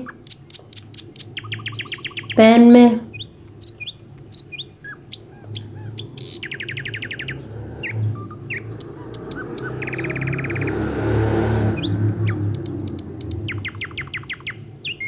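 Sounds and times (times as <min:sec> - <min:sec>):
bird trills: 0:00.0 - 0:15.0
birds chirping: 0:00.0 - 0:15.0.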